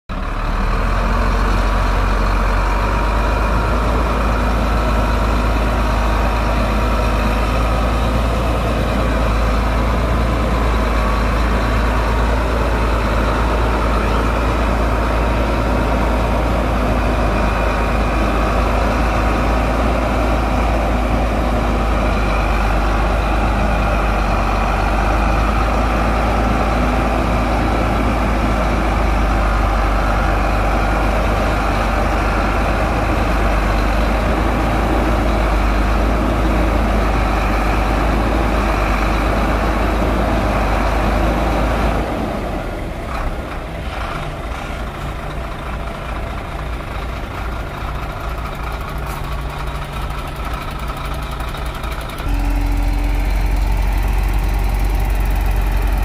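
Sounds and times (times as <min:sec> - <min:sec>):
diesel engine running steadily: 0:00.1 - 0:56.0.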